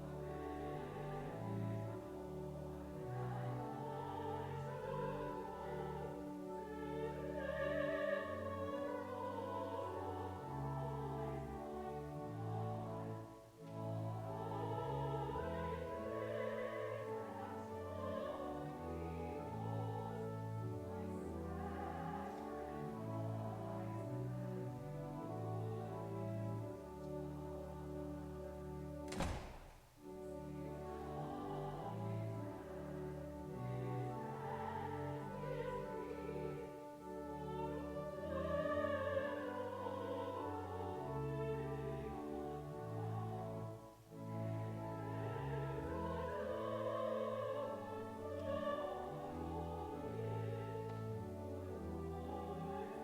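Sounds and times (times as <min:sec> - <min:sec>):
person singing a hymn: 0:00.0 - 0:29.4, 0:30.0 - 0:53.0
organ chords: 0:00.0 - 0:53.0
sustained instrumental accompaniment: 0:00.0 - 0:53.0.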